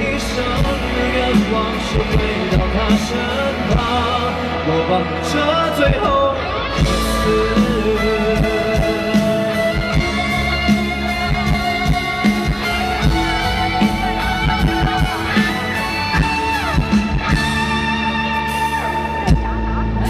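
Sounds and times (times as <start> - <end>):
live rock band instrumental: 0.0 - 20.0.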